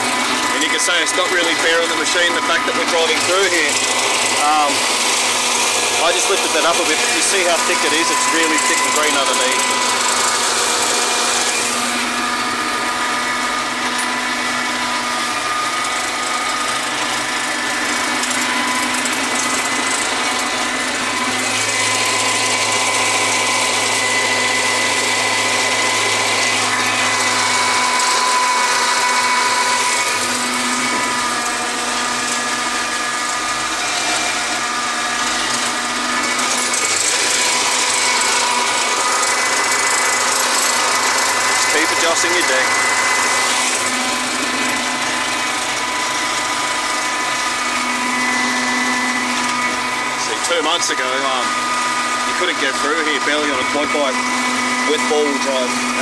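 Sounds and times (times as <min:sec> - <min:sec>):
tractor engine and flail mower: 0:00.0 - 0:56.0.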